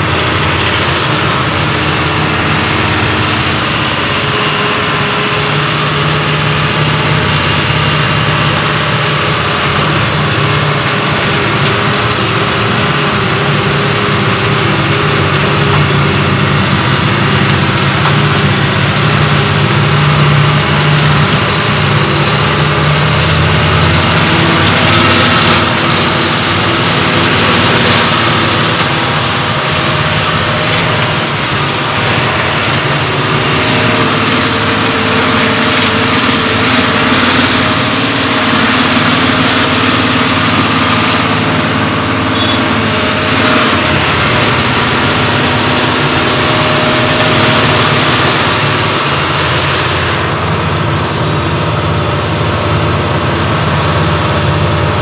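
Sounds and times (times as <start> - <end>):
road and wind noise: 0.0 - 55.0
truck engine running: 0.0 - 55.0.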